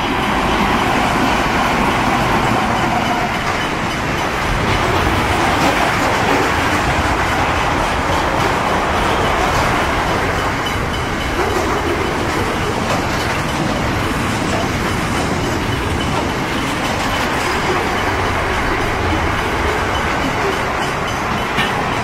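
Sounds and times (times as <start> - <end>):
steel wheels running on rails: 0.0 - 22.0.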